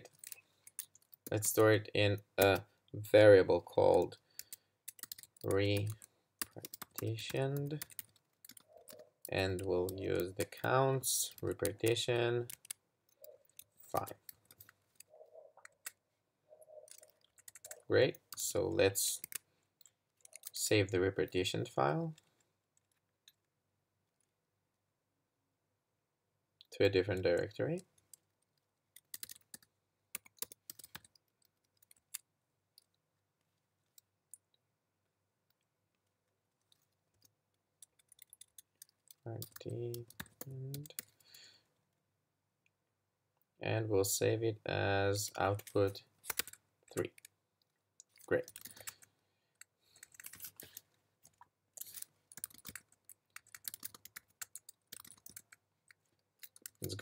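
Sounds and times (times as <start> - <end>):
faint keyboard typing: 0.0 - 24.4, 26.6 - 41.7, 45.1 - 57.0.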